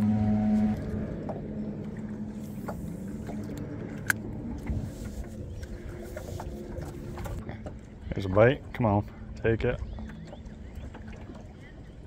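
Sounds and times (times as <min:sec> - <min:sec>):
fishing gear clicking in metal boat: 0:00.8 - 0:12.0.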